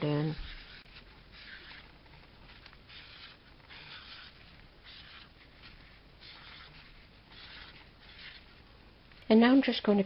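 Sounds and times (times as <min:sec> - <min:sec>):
pen scratching on paper: 0:00.0 - 0:08.6.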